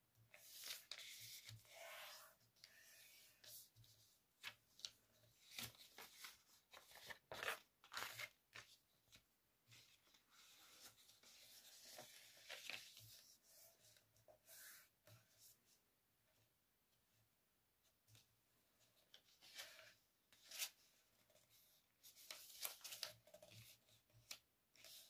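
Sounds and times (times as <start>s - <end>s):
paper being folded and creased: 0.3s - 14.9s, 18.9s - 25.0s.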